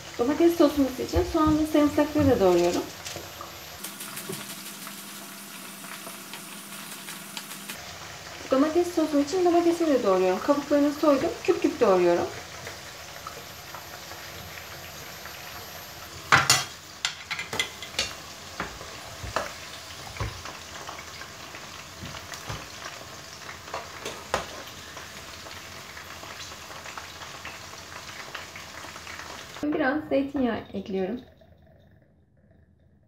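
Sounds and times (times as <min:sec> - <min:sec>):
frying sizzle in hot oil: 0:00.0 - 0:31.2.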